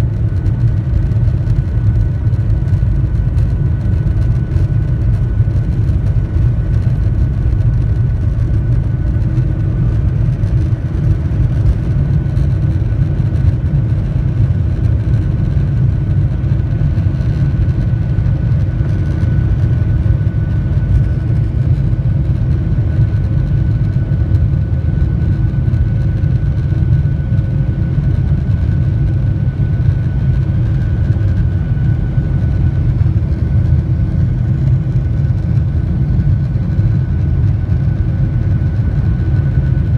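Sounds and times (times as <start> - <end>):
faint high engine whine: 0.0 - 39.9
jet engines deep rumble: 0.0 - 39.9.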